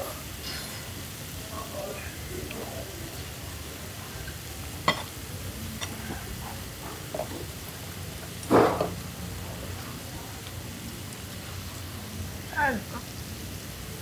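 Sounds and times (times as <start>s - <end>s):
food sizzling on a griddle: 0.0s - 14.0s.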